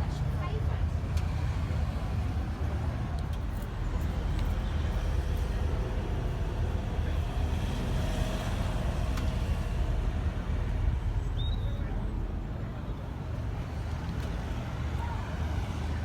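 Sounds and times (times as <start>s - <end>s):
car engine rumble: 0.0s - 16.0s
road noise: 0.0s - 16.0s.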